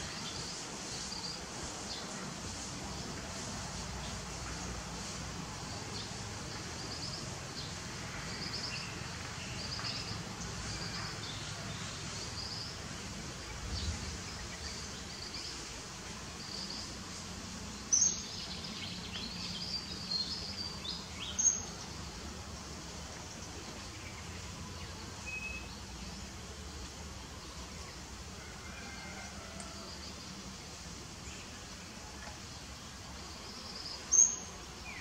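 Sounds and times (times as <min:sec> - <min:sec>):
outdoor background noise: 0:00.0 - 0:35.0.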